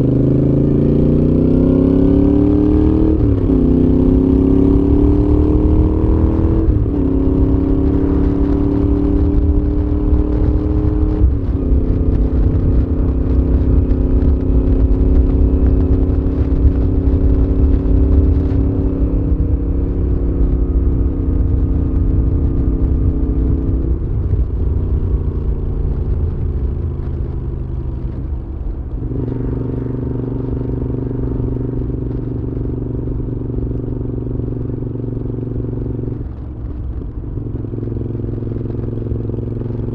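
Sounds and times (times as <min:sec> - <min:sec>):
low wind rumble: 0:00.0 - 0:39.9
motorcycle engine while riding: 0:00.0 - 0:39.9.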